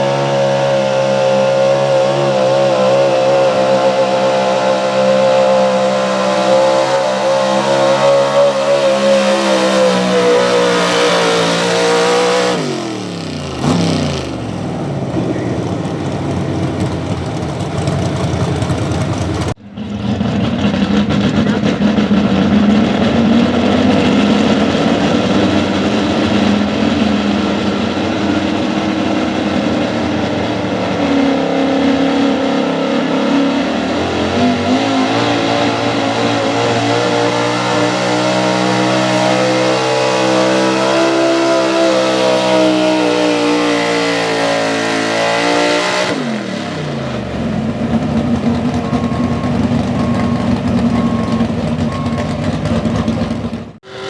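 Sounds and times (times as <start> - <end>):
truck engine revving under load: 0.0 - 54.0.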